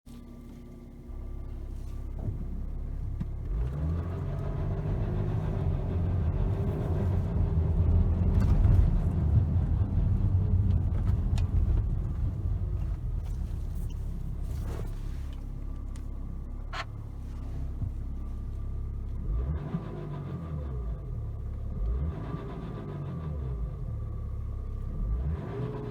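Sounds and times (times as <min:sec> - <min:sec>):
diesel engine running: 0:00.1 - 0:25.9.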